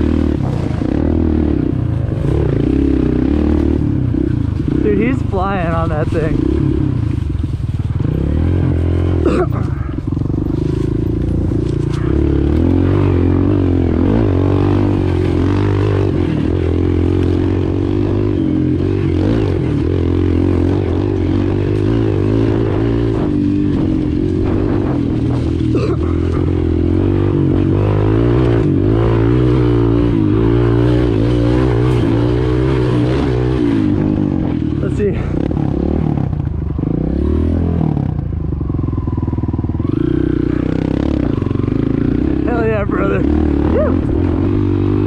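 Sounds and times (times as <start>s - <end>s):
dirt bike engine revving: 0.0s - 38.6s, 39.2s - 45.0s.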